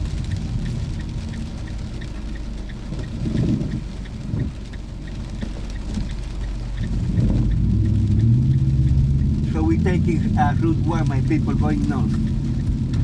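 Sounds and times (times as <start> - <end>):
engine and tyre rumble: 0.0 - 13.0
turn signal ticking: 0.0 - 13.0.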